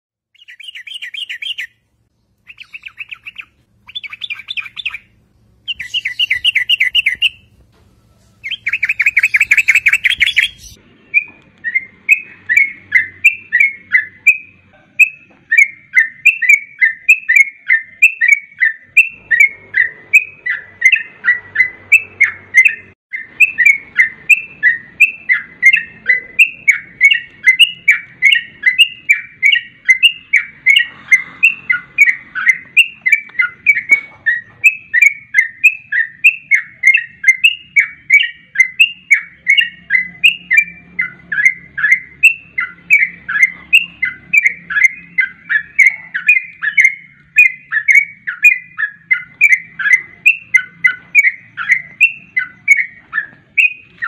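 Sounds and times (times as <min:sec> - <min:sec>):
bird rapid chattering: 0:00.3 - 0:01.8, 0:02.4 - 0:07.6, 0:08.4 - 0:10.8, 0:12.0 - 0:54.0
bird whistled notes: 0:00.3 - 0:01.8, 0:02.5 - 0:05.1, 0:05.7 - 0:07.6, 0:08.2 - 0:54.0.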